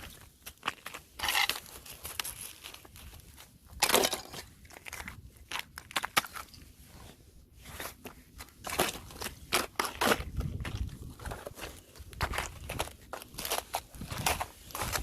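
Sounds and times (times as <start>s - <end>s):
ice crunching and cracking: 0.0s - 6.7s, 7.8s - 15.0s.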